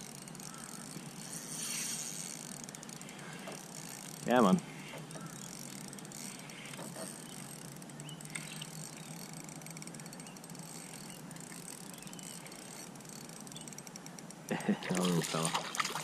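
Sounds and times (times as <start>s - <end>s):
fishing reel ticking: 0.0s - 15.2s.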